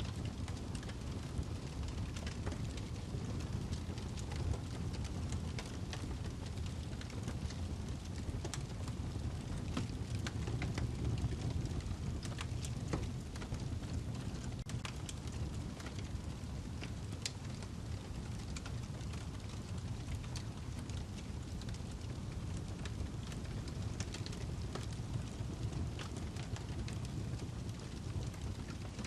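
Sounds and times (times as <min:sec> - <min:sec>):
low rumble of flames: 0:00.0 - 0:29.0
wood fire crackling: 0:00.0 - 0:29.0.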